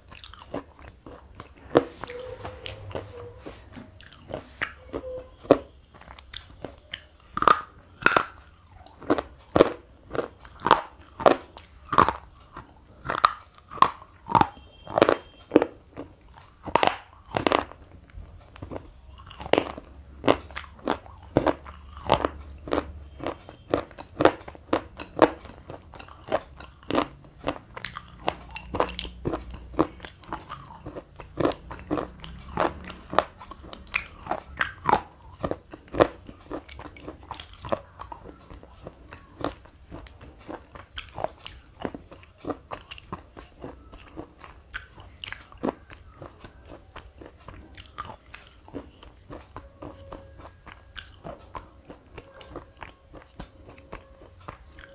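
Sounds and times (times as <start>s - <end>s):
crisp chewing crunches: 0.0s - 54.9s.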